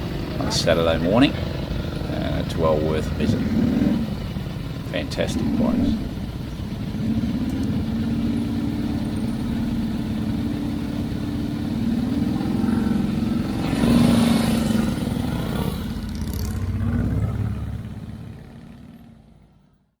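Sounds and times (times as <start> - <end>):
motorcycle engine revving: 0.0 - 19.7.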